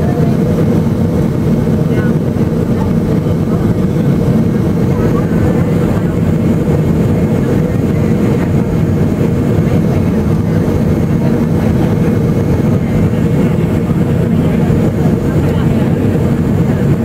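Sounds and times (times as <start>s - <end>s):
airliner cabin engine noise: 0.0s - 17.0s.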